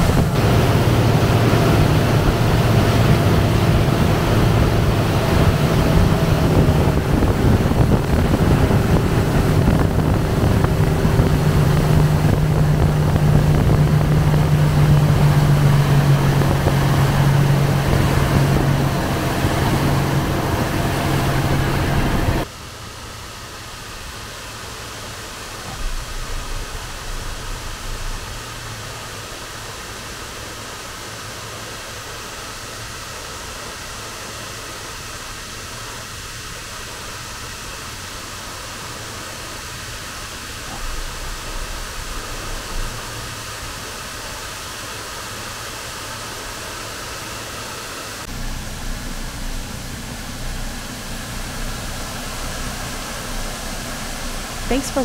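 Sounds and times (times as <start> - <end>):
motorboat engine running: 0.0 - 55.0
steady hum: 0.0 - 55.0
wind and water noise: 0.0 - 55.0.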